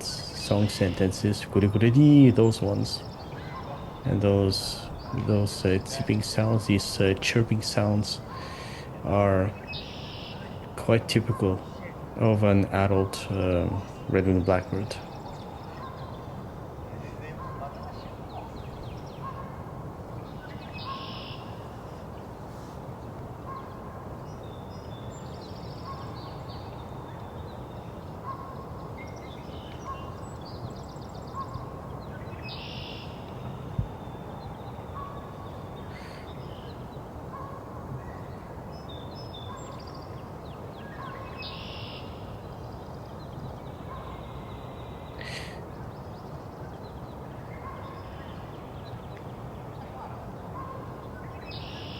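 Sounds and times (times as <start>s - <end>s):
songbirds singing and calling: 0.0s - 51.9s.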